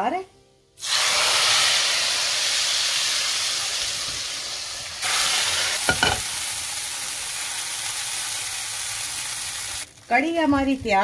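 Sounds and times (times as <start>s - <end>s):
hot oil sizzling: 0.8s - 10.2s.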